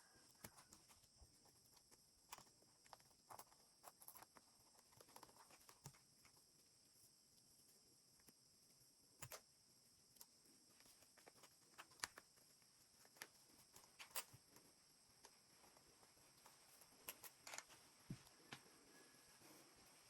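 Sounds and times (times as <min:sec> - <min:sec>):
steady faint hiss: 0:03.3 - 0:20.0.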